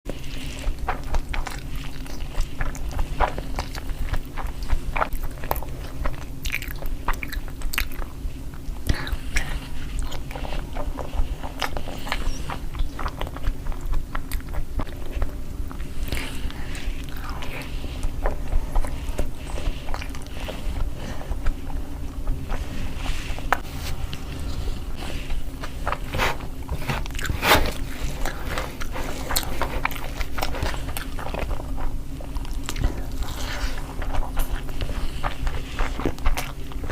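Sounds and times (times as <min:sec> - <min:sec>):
low hum: 0:00.1 - 0:36.9
person chewing and crunching: 0:00.1 - 0:36.9.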